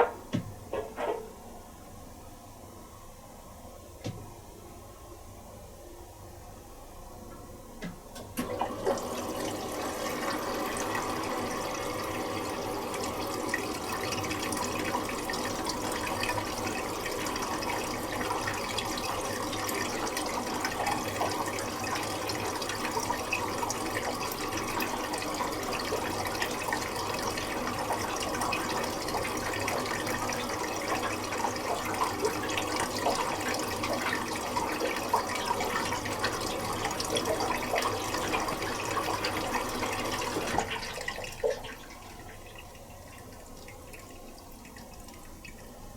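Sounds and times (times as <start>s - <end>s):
water pouring into washing machine: 8.2s - 45.9s.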